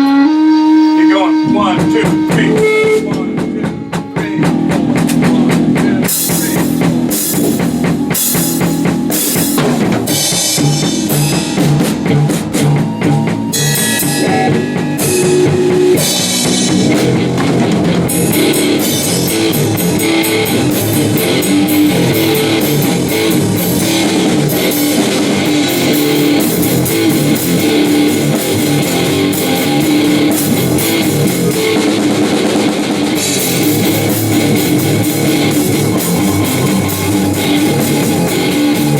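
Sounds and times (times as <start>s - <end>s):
cymbals: 0.0s - 38.9s
drum kit: 0.0s - 38.9s
electric guitar: 0.0s - 38.9s.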